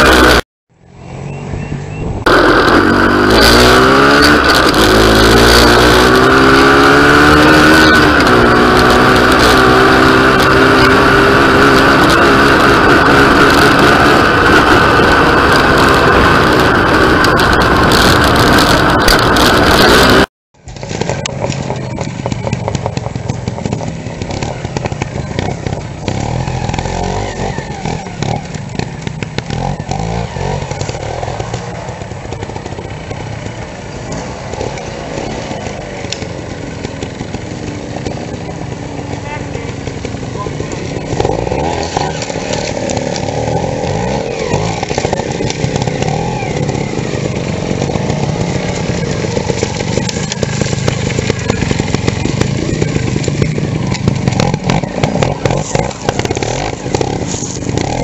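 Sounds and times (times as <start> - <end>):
motorcycle engine revving close: 0.0 - 58.0
distant motorcycle throttle blips: 4.2 - 58.0.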